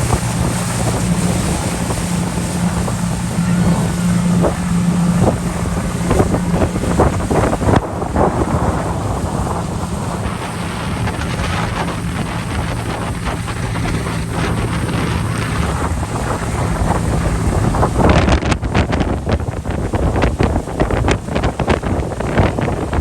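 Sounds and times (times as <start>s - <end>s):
speedboat engine running: 0.0s - 23.0s
water rushing past hull: 0.0s - 23.0s
water splashing and slapping: 0.0s - 23.0s
wind buffeting microphone: 0.0s - 23.0s.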